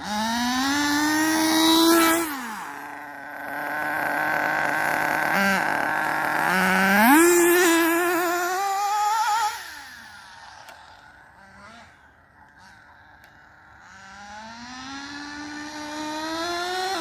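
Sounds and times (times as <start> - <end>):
radio-controlled car motor whine: 0.0 - 17.0.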